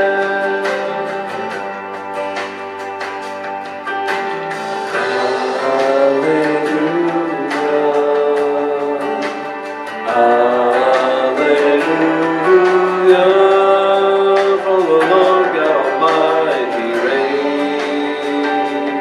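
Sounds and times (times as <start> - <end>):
man singing into a microphone: 0.0 - 1.5, 5.0 - 19.0
instrumental accompaniment: 0.0 - 19.0.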